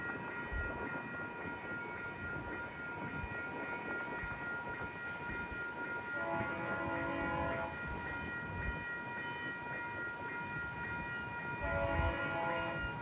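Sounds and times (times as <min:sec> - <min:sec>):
low steady tones: 0:00.0 - 0:13.0
train rolling: 0:00.0 - 0:13.0.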